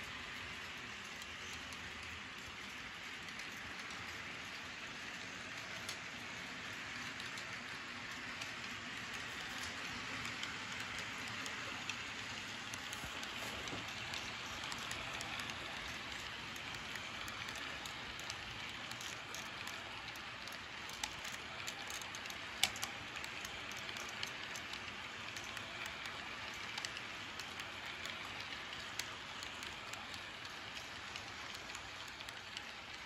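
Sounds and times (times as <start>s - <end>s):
model train cars rattling on track: 0.0s - 33.0s.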